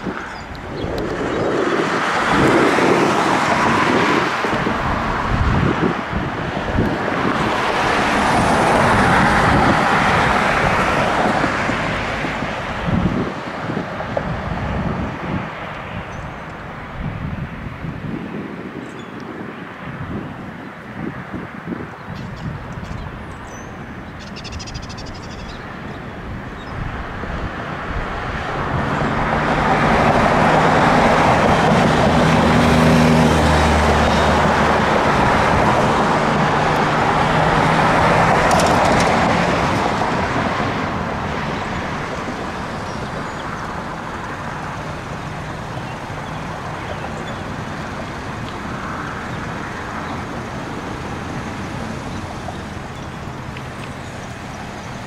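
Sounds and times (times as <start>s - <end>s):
steady traffic hum: 0.0s - 55.0s
vehicle engine and tyre noise: 0.0s - 55.0s.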